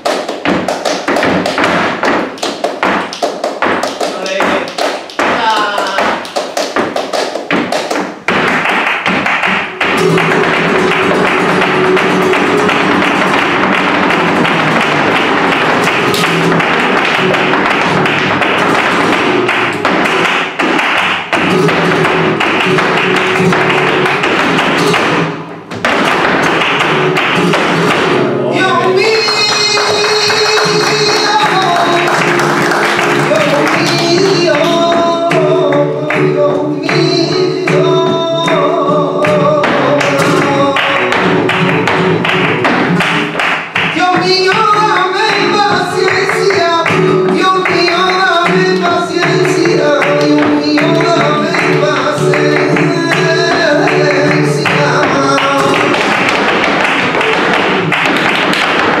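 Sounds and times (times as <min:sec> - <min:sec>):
dancer's rapid footwork: 0:00.0 - 0:59.0
flamenco guitar: 0:00.0 - 0:59.0
man singing flamenco: 0:00.0 - 0:59.0.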